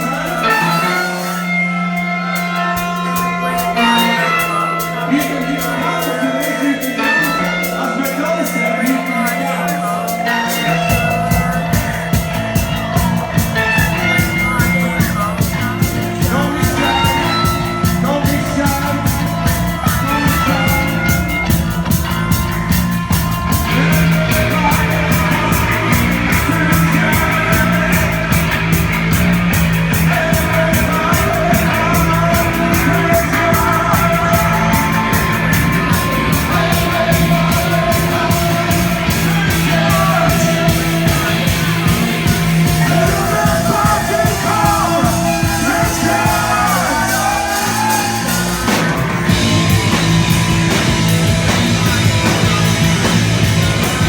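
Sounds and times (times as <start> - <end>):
droning bass guitars: 0.0 - 54.0
drums driving beat: 0.0 - 54.0.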